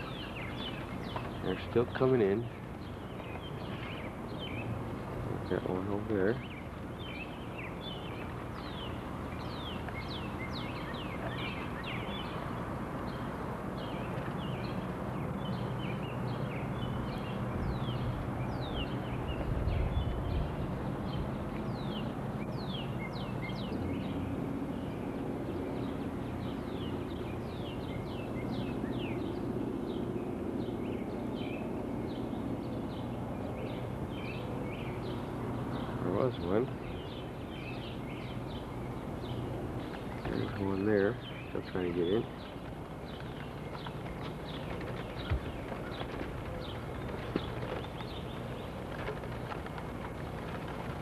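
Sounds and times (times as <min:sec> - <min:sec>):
birds chirping and singing: 0:00.0 - 0:51.0.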